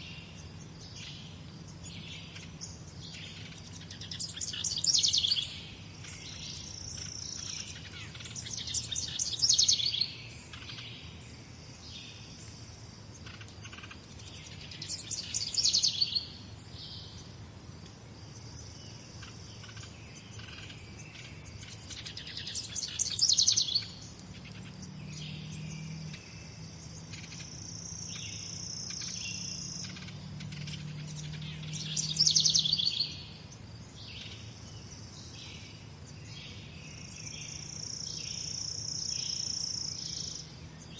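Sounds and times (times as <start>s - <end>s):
songbird singing high phrase: 0.0s - 17.4s, 18.2s - 40.9s
faint high pulsing chirps: 0.0s - 40.9s
quiet bird chirps: 0.0s - 40.9s.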